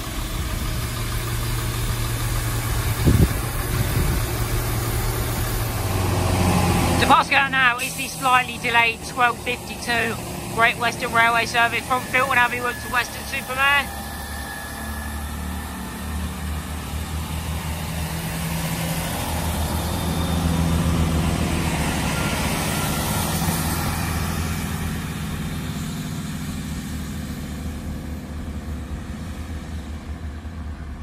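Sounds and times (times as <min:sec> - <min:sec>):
diesel engine drone: 0:00.0 - 0:31.0
wheels rumbling on rails: 0:00.0 - 0:31.0.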